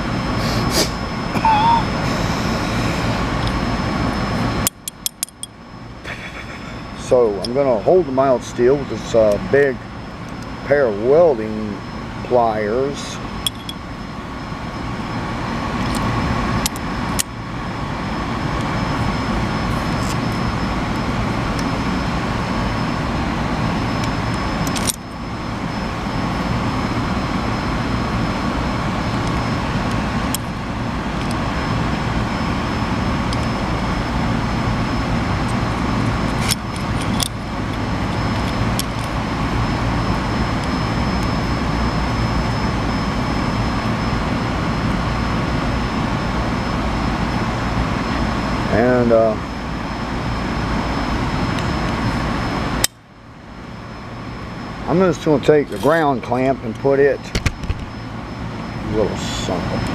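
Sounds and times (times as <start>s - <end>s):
mechanical hum and rushing: 0.0s - 59.9s
faint steady tones: 6.6s - 59.9s.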